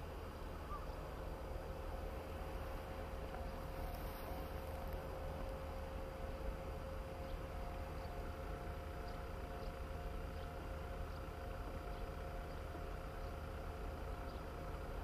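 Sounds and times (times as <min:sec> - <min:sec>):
diesel railcar engine rumble: 0:00.0 - 0:15.0
faint steady whine: 0:00.0 - 0:15.0.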